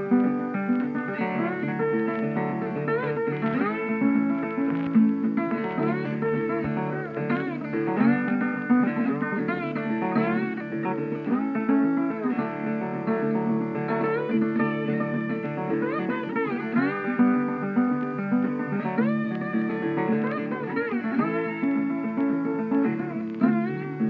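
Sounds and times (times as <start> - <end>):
guitar tune with bending notes: 0.0 - 24.0.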